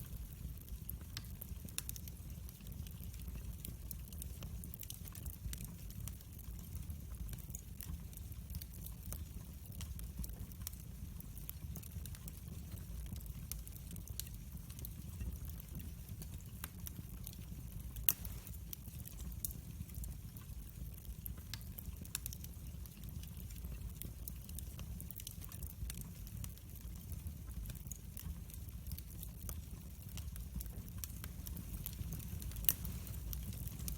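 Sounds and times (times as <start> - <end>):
fire crackles and pops: 0.0 - 33.9
wood fire rumbling: 0.0 - 33.9.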